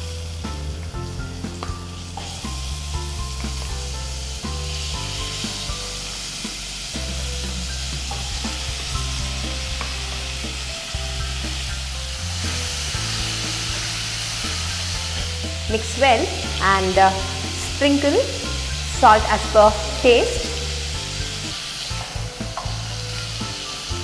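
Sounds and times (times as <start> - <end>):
background music: 0.0 - 24.0
chicken sizzling in oil: 0.0 - 24.0.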